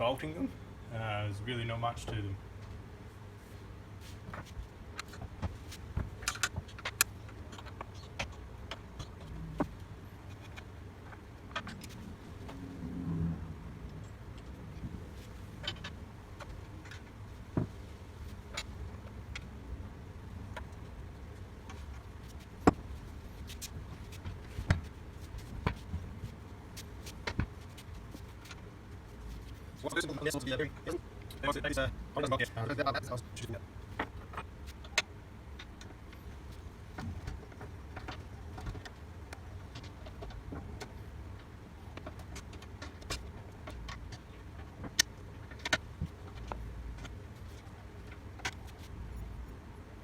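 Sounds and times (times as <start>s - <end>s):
low steady rumble: 0.0s - 50.0s.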